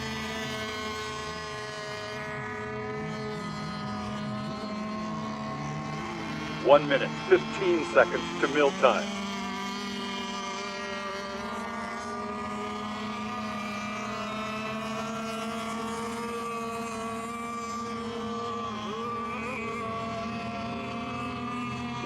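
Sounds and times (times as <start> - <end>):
model boat motors buzzing: 0.0 - 7.3, 8.0 - 22.0.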